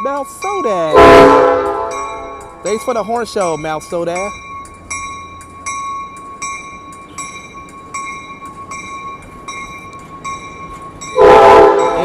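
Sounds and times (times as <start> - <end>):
railroad crossing bell ringing: 0.0 - 12.0
train rumbling: 0.0 - 12.0.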